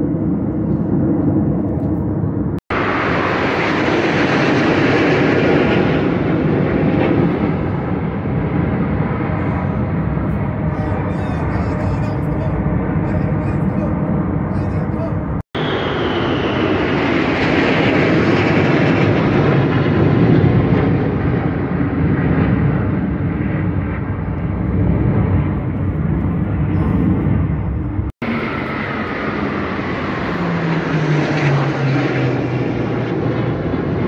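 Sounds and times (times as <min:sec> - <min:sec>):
jet engines rumbling overhead: 0:00.0 - 0:34.0.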